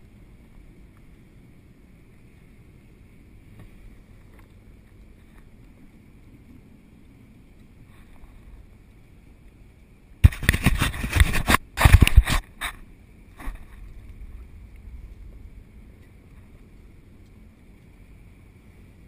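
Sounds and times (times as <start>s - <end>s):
low wind: 0.0s - 19.0s
water rumble: 0.0s - 19.0s.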